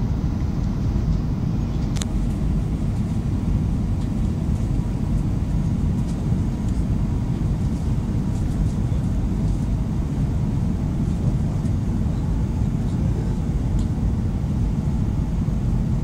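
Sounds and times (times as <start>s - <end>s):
airflow noise: 0.0s - 16.0s
airliner cabin engine rumble: 0.0s - 16.0s.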